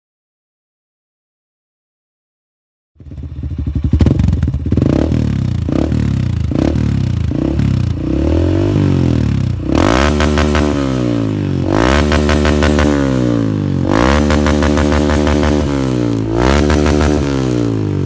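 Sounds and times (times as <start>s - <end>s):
motorcycle engine revving: 3.0s - 18.0s.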